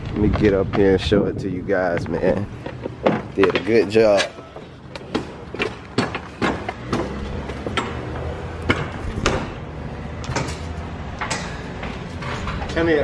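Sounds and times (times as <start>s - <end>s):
feet clanking on ladder rungs: 1.9s - 9.6s, 10.2s - 13.0s.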